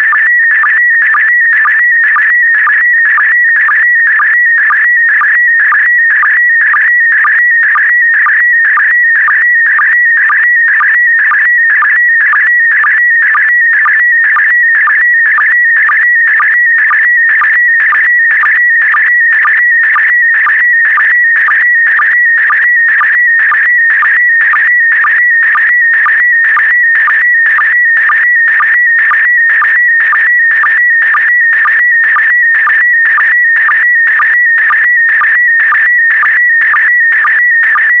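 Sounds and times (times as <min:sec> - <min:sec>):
warbling high tone signal: 0:00.0 - 0:38.0.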